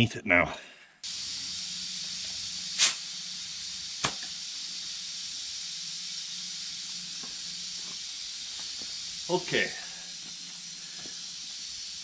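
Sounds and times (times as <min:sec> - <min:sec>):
high outdoor hiss: 0:01.0 - 0:12.0.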